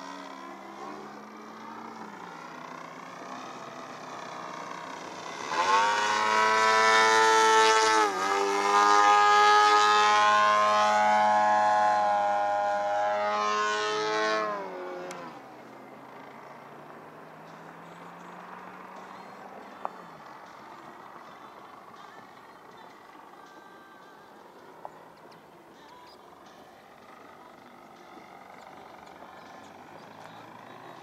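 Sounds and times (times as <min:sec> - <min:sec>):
model plane engine buzzing: 0:00.0 - 0:31.0.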